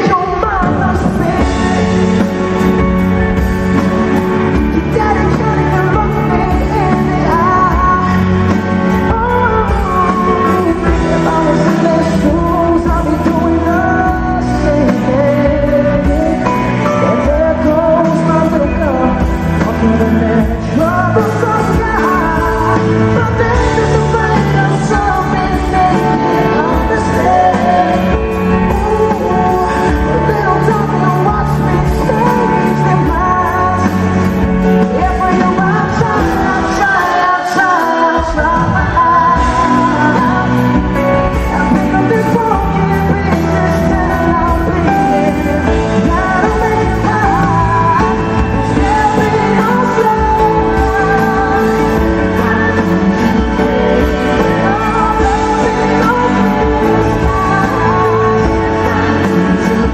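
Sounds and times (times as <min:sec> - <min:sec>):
live band playing: 0:00.0 - 0:59.9
man singing: 0:00.0 - 0:59.9.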